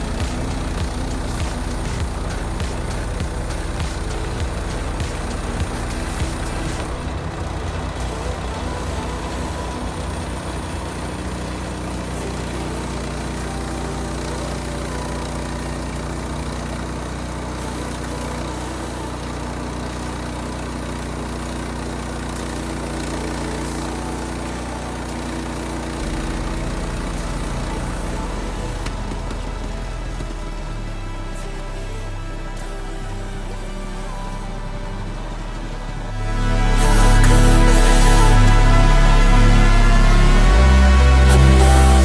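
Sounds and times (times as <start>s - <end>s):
engine running steadily: 0.0s - 42.0s.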